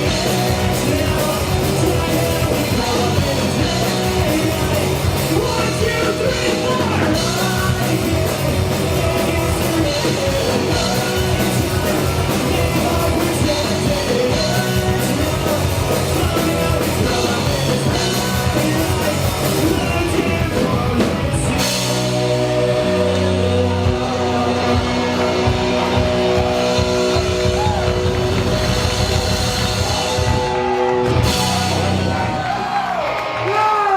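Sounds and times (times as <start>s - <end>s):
live punk rock band: 0.0s - 33.9s.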